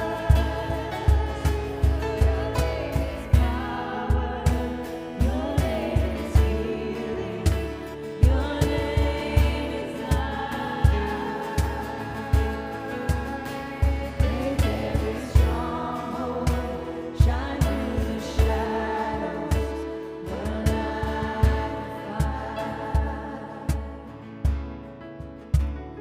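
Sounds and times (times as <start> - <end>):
kick drum beat: 0.0 - 18.8, 20.5 - 26.0
people singing: 0.0 - 24.8.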